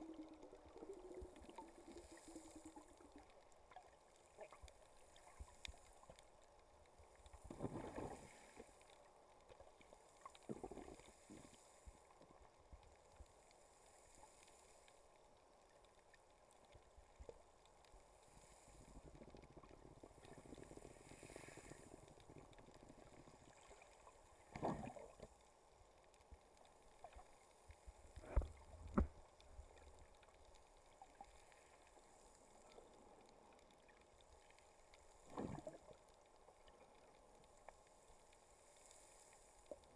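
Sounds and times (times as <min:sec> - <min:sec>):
muffled underwater water movement: 0:00.0 - 0:39.9
water swishes: 0:00.0 - 0:39.9.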